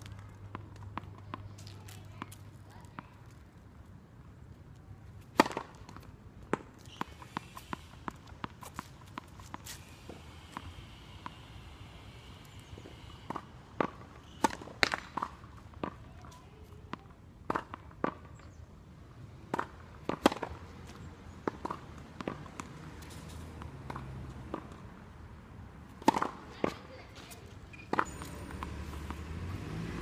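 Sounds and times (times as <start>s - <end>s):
tennis balls bouncing: 0.0s - 3.3s, 4.2s - 18.6s, 19.3s - 25.1s, 25.8s - 30.0s.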